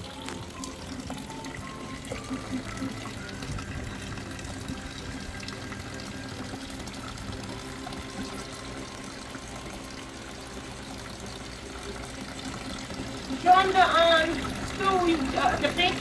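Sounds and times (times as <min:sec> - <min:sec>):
fountain water splashing into basin: 0:00.0 - 0:16.0.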